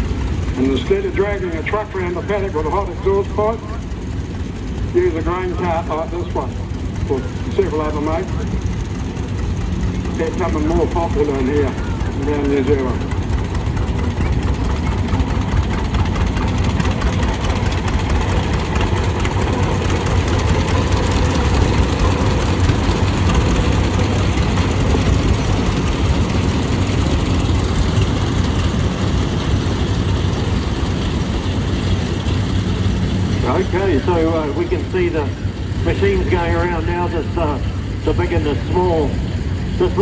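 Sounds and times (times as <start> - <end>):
heavy diesel engines rumbling: 0.0 - 40.0.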